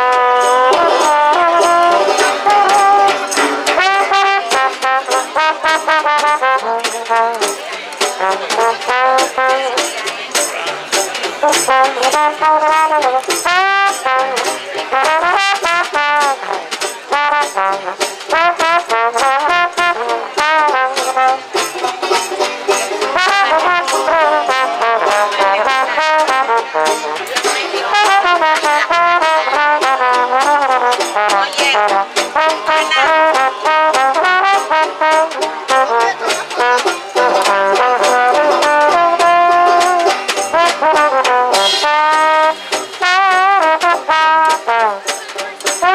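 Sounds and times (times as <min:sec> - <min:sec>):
double bass: 0:00.0 - 0:45.9
drum and cymbal beat: 0:00.0 - 0:45.9
trombone sliding melody: 0:00.0 - 0:45.9.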